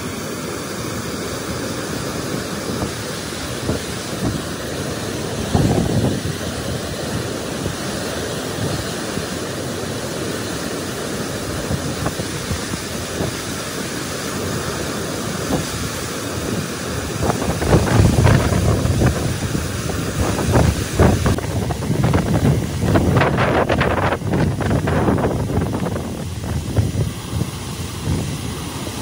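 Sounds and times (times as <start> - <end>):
water rushing from spillway: 0.0 - 29.0
wind buffeting microphone: 1.5 - 29.0.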